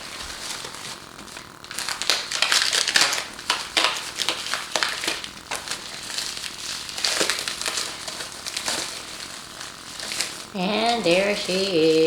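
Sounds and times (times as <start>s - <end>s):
packing material crinkling: 0.0s - 11.9s.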